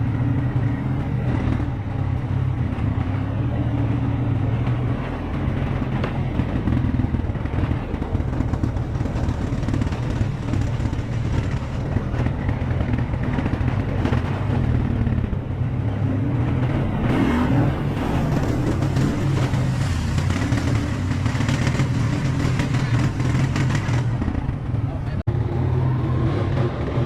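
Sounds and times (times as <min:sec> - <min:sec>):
atv engine droning and revving: 0:00.0 - 0:27.0.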